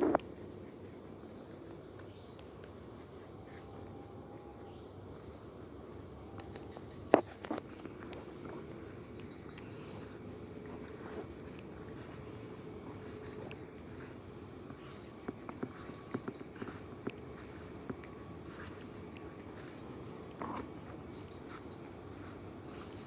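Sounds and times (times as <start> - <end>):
night insects chirring: 0.0 - 23.0.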